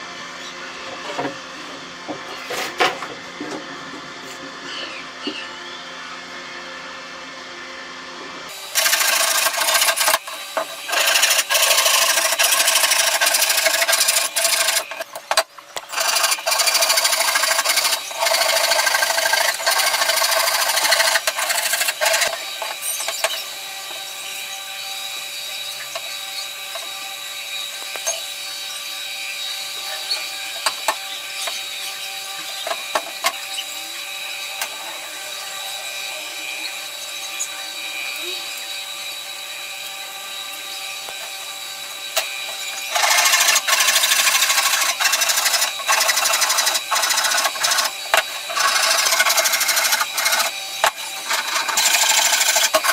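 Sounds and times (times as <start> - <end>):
power tool cutting wood: 8.5 - 52.9.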